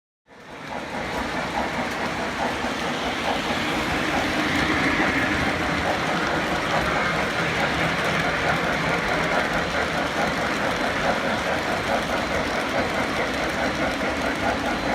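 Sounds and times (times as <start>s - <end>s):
model train running on track: 0.3s - 14.9s.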